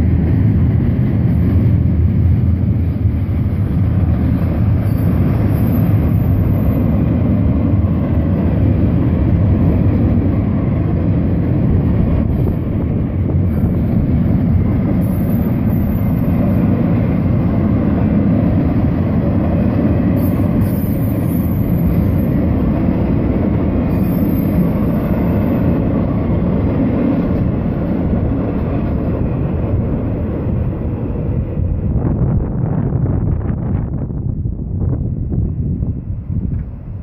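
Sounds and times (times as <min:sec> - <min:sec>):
freight train wheels rumbling on rail: 0:00.0 - 0:37.0.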